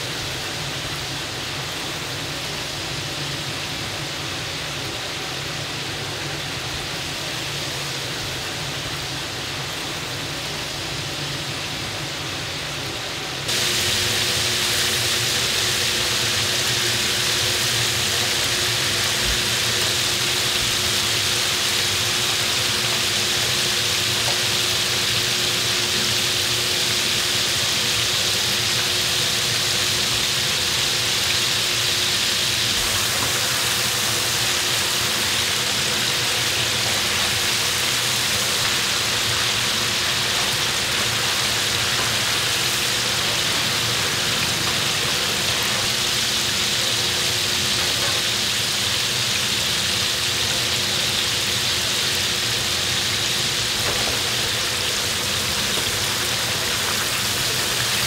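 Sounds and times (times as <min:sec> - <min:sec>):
steady hum: 0:00.0 - 0:48.2
food deep-frying in hot oil: 0:00.0 - 0:58.0.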